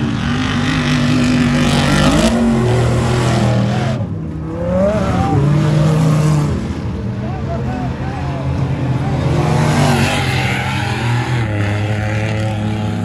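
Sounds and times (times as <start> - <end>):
race truck engines racing past: 0.0 - 13.0.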